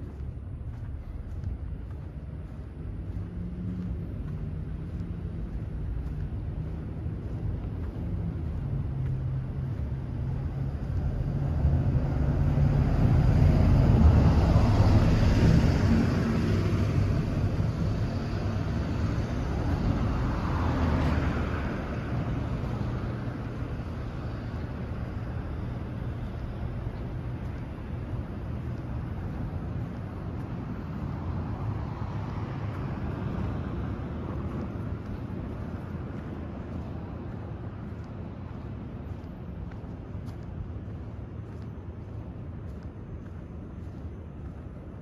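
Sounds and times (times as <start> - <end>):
vehicle engine hum: 0.0 - 45.0
vehicles passing: 0.0 - 45.0.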